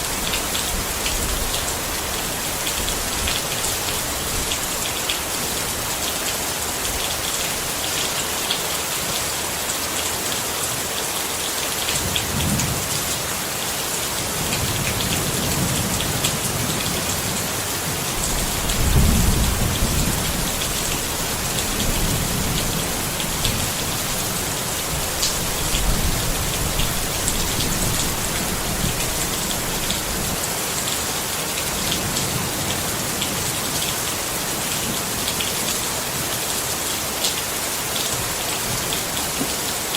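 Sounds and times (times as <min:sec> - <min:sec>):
rain pattering on a tent: 0:00.0 - 0:39.9.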